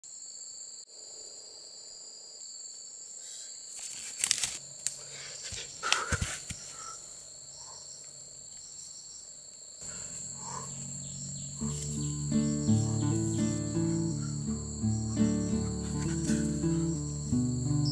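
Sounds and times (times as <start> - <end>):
insects chirring: 0.0 - 17.9.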